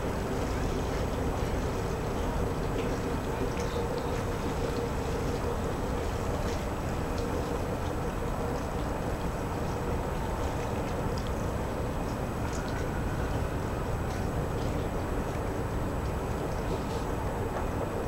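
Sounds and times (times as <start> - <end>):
harbour-side noise: 0.0 - 18.0
low rumble of wind: 0.0 - 18.0.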